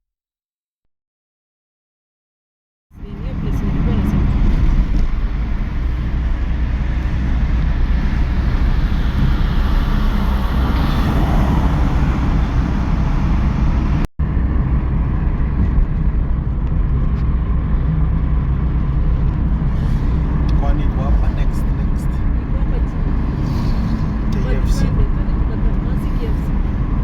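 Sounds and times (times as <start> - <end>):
car road noise and engine rumble: 3.0 - 27.0.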